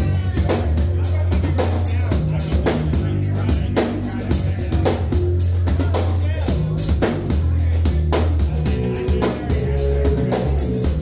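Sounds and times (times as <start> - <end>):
drum kit with cymbals: 0.0 - 11.0
keyboard: 0.0 - 11.0
low bass notes: 0.0 - 11.0.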